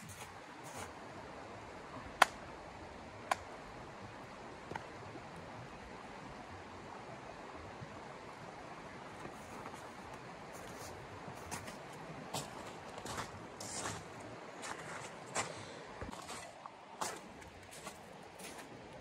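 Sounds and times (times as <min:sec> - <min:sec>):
shallow river flowing over stones: 0:00.0 - 0:19.0.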